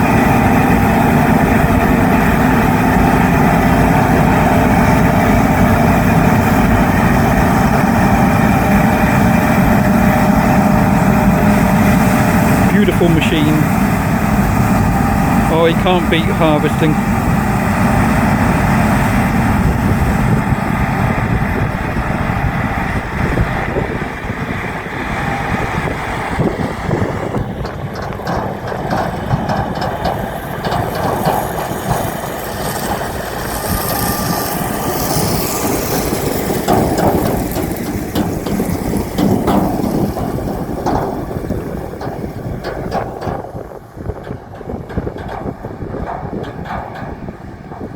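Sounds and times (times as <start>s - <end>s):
combine harvester running: 0.0s - 47.9s
machinery rattles and clicks: 0.0s - 47.9s.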